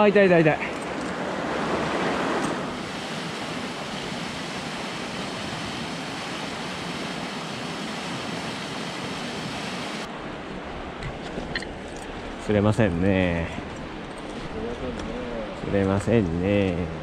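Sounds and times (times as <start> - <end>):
stream water rushing: 0.0 - 16.2.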